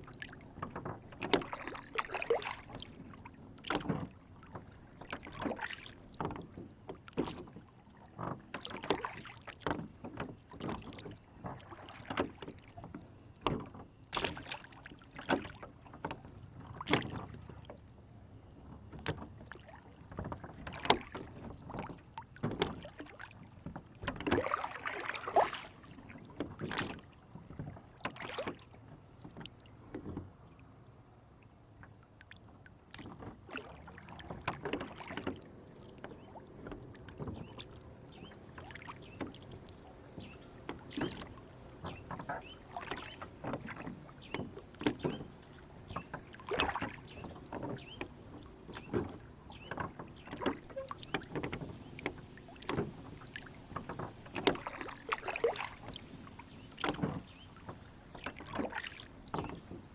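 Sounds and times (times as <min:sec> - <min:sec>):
water slapping against rowboat: 0:00.0 - 0:30.5, 0:32.2 - 0:59.9.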